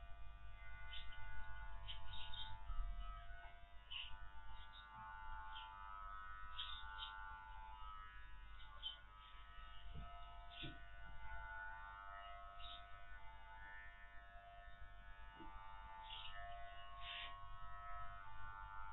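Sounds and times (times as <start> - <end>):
electric clippers buzzing: 0.0 - 18.9.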